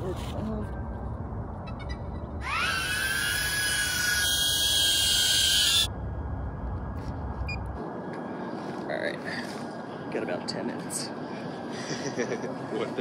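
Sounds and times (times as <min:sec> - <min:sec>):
drone propellers whine: 0:00.7 - 0:12.7.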